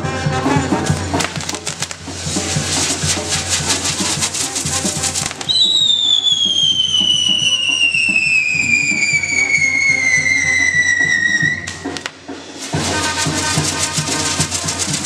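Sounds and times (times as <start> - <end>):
brass band music: 0.0 - 6.6, 8.6 - 15.0
fireworks crackling: 0.0 - 15.0
firework whistle sliding down: 2.3 - 15.0.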